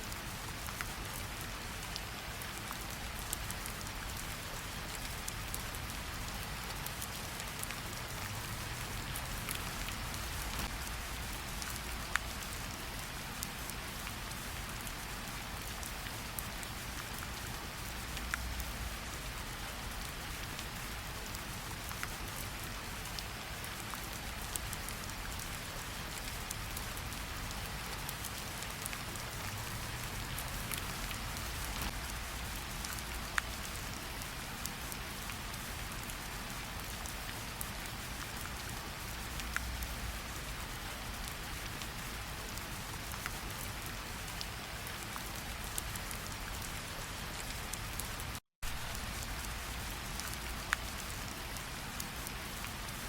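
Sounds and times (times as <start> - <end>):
rain falling on ground and water: 0.0 - 53.0.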